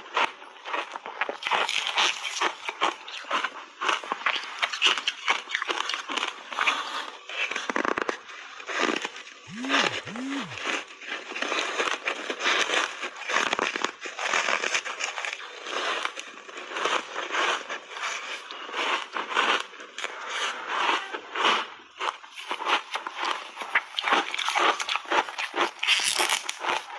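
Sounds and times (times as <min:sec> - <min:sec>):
biting and chewing crunchy ice: 0:00.0 - 0:08.2, 0:08.9 - 0:10.6, 0:11.3 - 0:26.9.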